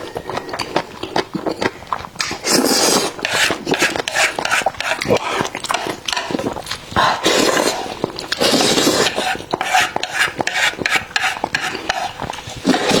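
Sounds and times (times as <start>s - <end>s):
wet chewing: 0.0s - 13.0s.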